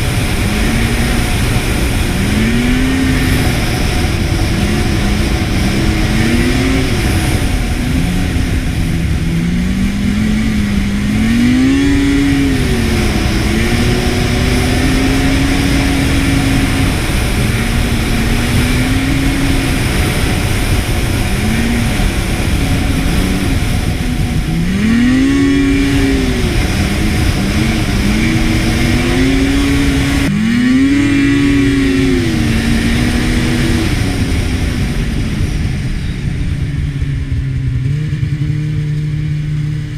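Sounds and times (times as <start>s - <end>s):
snowmobile engine running: 0.0s - 39.9s
steady rushing noise: 0.0s - 39.9s.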